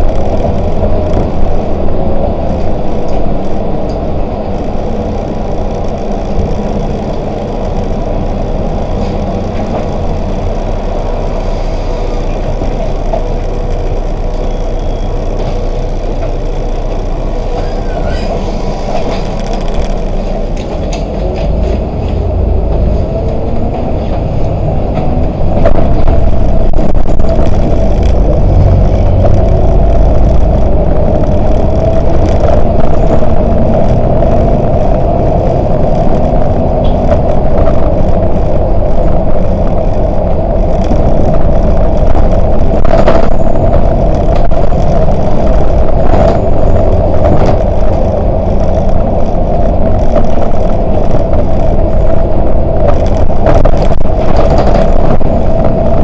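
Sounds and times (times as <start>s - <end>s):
bus engine and road rumble: 0.0s - 56.0s
mid-pitched whine: 0.0s - 56.0s.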